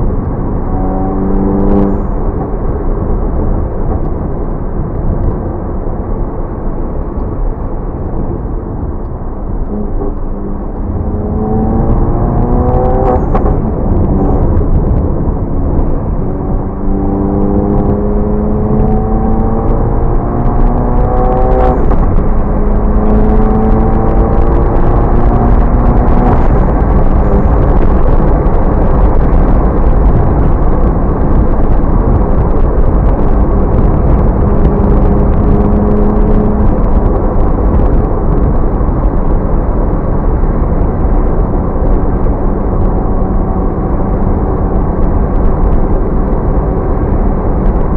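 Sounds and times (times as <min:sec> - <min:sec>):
car exhaust accelerating hard: 0:00.0 - 0:47.9
low road rumble: 0:00.0 - 0:47.9.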